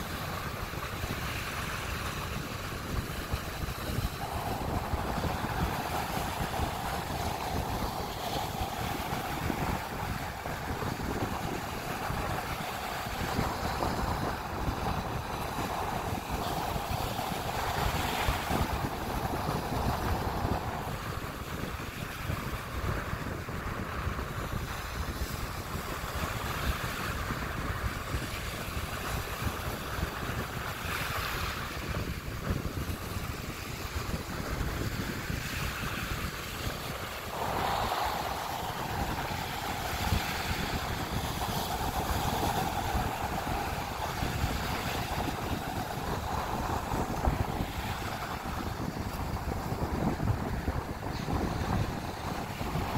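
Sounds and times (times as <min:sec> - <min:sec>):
small waves breaking on beach: 0:00.0 - 0:52.9
wind buffeting microphone: 0:00.0 - 0:52.9.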